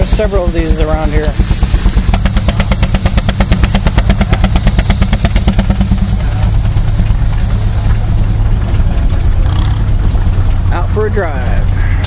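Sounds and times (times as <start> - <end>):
engine running low rumble: 0.0 - 12.0
steam engine exhaust beating: 0.0 - 12.0.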